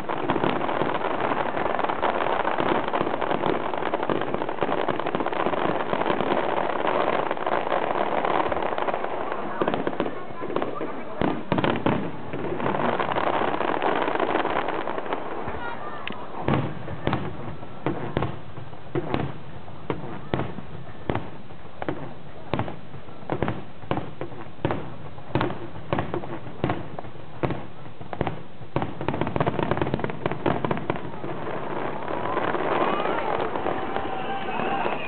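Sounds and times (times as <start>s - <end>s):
fireworks bangs and pops: 0.0s - 35.0s
murmur of crowd: 0.0s - 35.0s.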